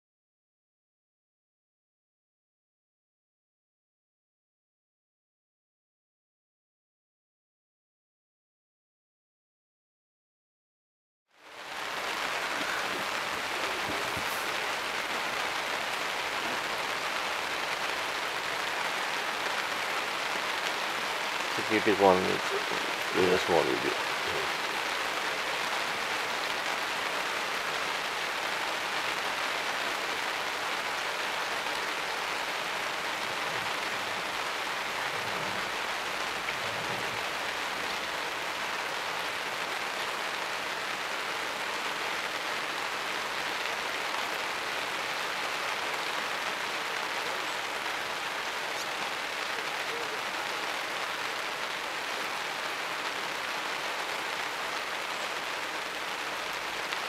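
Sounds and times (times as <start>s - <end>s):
rain falling on foliage: 11.3s - 57.0s.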